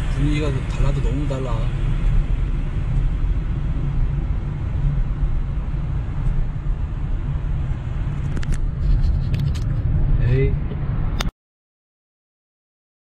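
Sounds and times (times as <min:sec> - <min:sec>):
car road and engine rumble: 0:00.0 - 0:11.3.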